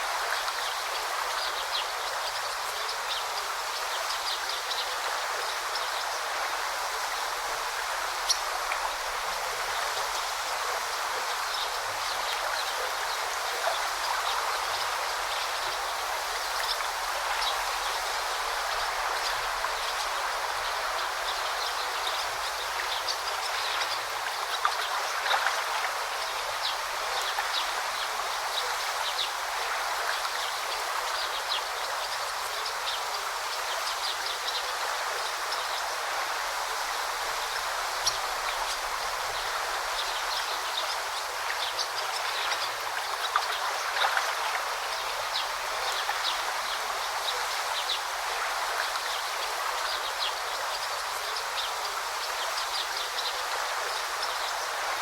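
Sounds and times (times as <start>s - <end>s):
river babbling: 0.0s - 55.0s.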